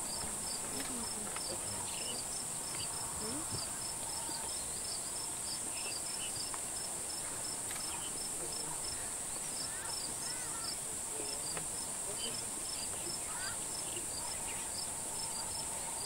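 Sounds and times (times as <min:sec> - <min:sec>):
insect chirping: 0:00.0 - 0:16.0
insect high-pitched drone: 0:00.0 - 0:16.0.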